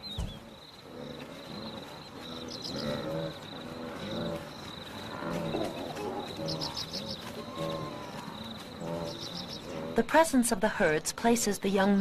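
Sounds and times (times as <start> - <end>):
bird chirping: 0.0 - 10.0
wildebeest grunting and moaning: 0.0 - 10.1
high insect trill: 0.0 - 10.4.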